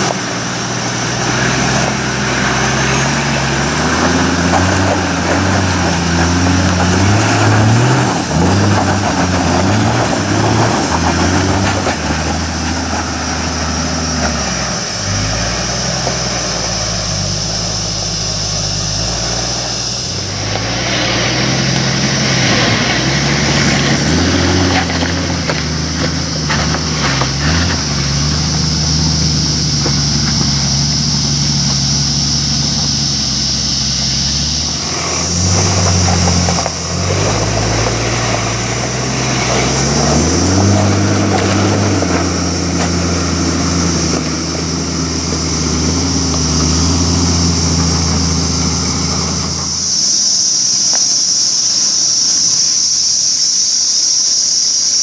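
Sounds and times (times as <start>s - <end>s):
diesel engine revving: 0.0s - 52.7s
steady high hiss: 0.0s - 55.0s.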